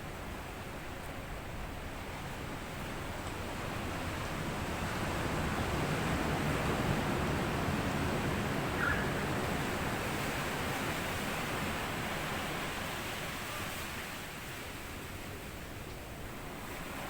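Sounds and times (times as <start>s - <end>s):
small waves washing on sand: 2.4s - 17.0s.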